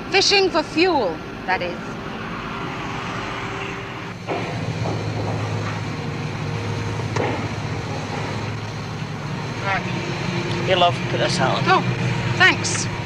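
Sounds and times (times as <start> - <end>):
deck machinery low hum: 0.0 - 13.0.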